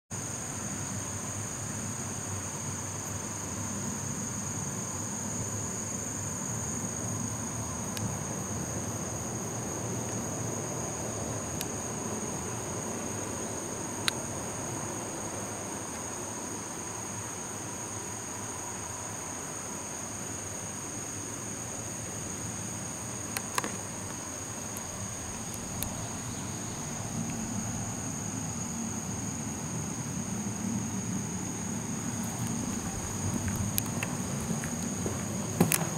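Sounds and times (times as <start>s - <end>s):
insects chorus: 0.1s - 35.9s.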